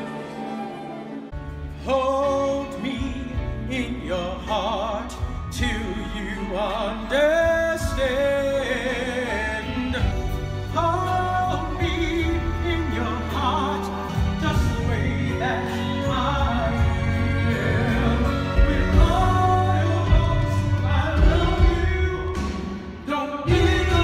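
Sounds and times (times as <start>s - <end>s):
instrumental accompaniment: 0.0s - 24.0s
person singing with vibrato: 0.0s - 24.0s
bass: 1.3s - 24.0s.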